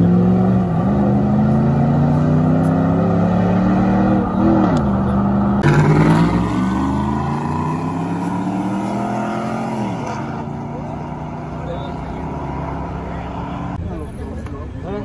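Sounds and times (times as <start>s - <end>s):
car engine at high revs: 0.0s - 13.8s.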